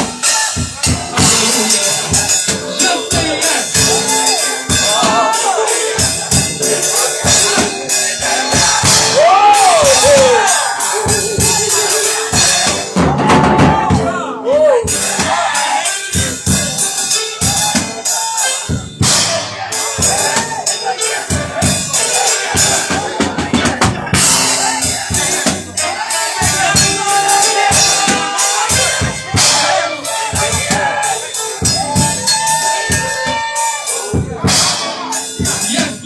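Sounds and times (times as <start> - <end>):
drum kit playing busy beat: 0.0 - 36.0
live gospel music: 0.0 - 36.0.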